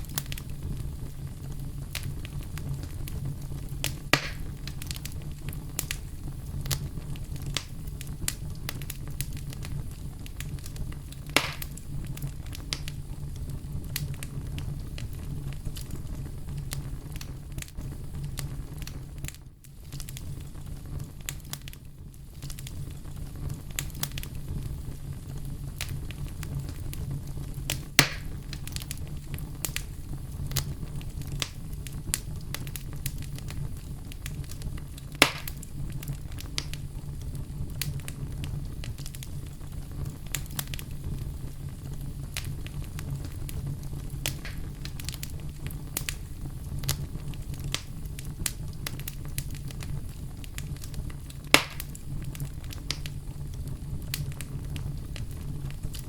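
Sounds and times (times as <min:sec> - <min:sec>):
campfire crackling: 0:00.0 - 0:56.0
fire popping: 0:00.0 - 0:56.0
low fire rumble: 0:00.0 - 0:56.0.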